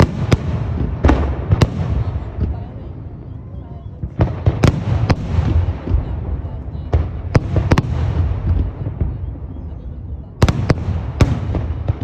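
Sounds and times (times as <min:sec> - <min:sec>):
fireworks bursting: 0:00.0 - 0:12.0
low rumble of booms: 0:00.0 - 0:12.0.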